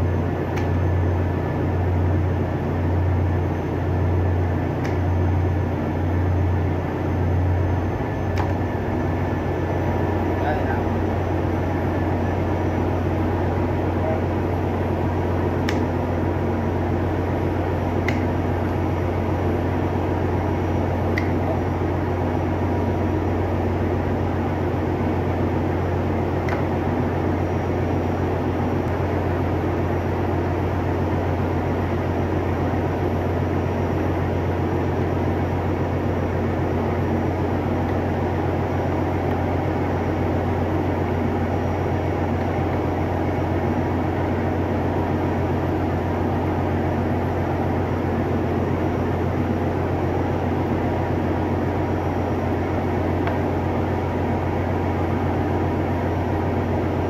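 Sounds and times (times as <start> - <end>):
engine-room machinery drone: 0.0 - 57.0.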